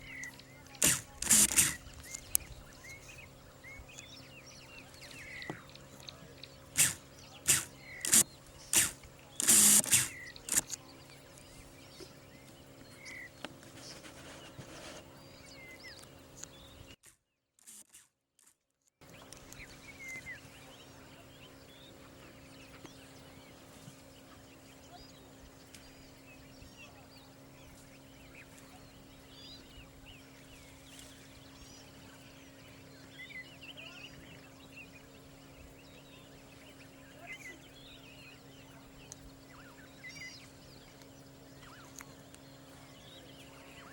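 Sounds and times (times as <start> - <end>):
birds chirping: 0.0 - 17.0, 19.0 - 43.9
steady low hum: 0.0 - 17.0, 19.0 - 43.9.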